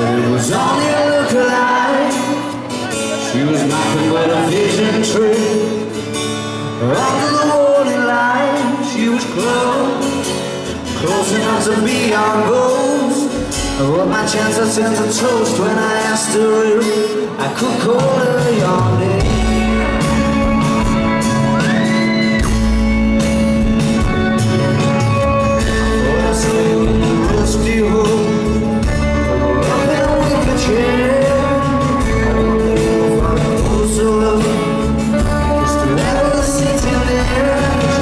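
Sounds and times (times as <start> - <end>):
live rock band playing: 0.0 - 38.0
person singing: 0.0 - 38.0.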